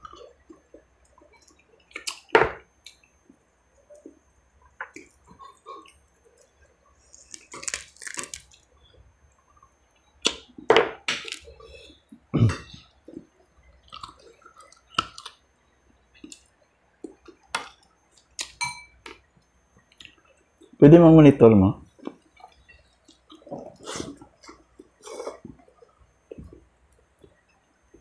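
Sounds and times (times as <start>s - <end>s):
person chewing food: 0.0s - 15.4s, 16.0s - 20.8s, 21.9s - 28.0s.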